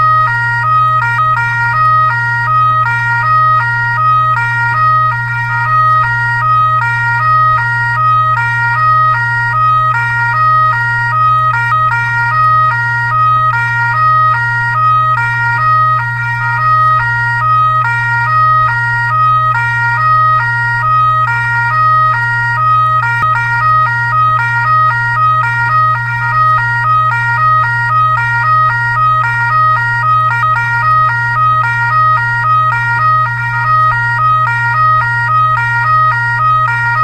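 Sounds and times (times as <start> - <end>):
steady low hum: 0.0 - 37.0
two-tone fire truck siren: 0.0 - 37.0.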